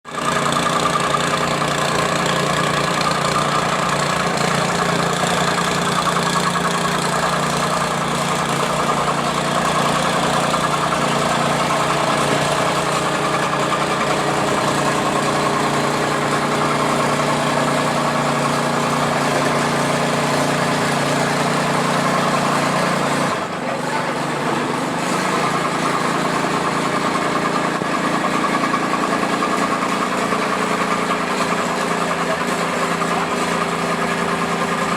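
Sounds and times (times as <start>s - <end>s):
tamping rammer engine running: 0.0s - 34.9s.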